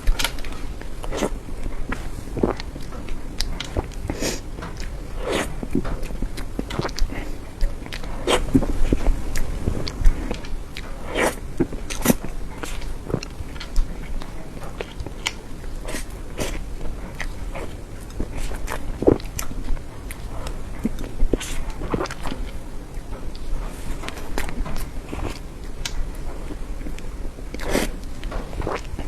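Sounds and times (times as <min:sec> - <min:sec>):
mouth clicks and smacks: 0:00.0 - 0:29.0
person chewing cake: 0:00.0 - 0:29.0.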